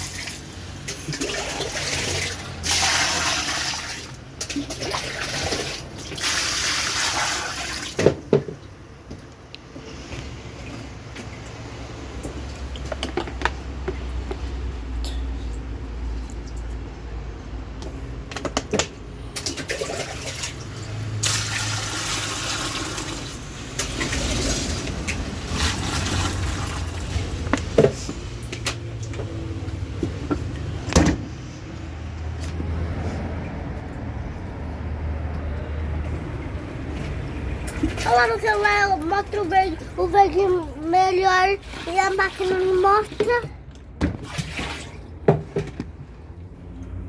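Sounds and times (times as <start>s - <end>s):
washing machine water sloshing: 0.0s - 47.0s.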